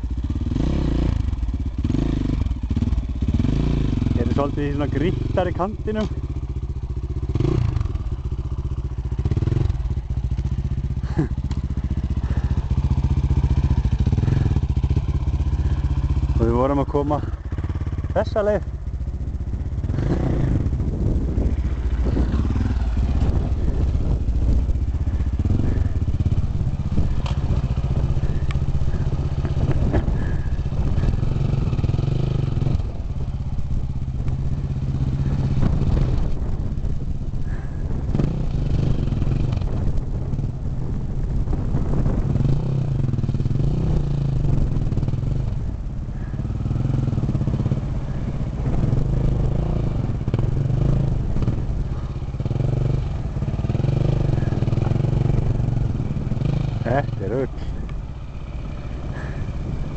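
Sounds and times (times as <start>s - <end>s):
dirt bike engine revving: 0.0s - 6.3s, 7.0s - 39.9s, 41.7s - 59.9s.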